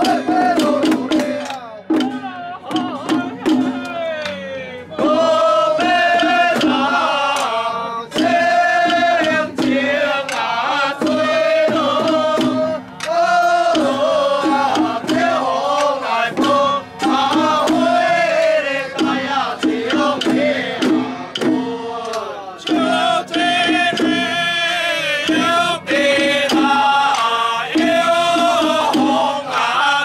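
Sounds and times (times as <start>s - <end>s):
sharp percussion strikes: 0.0s - 30.0s.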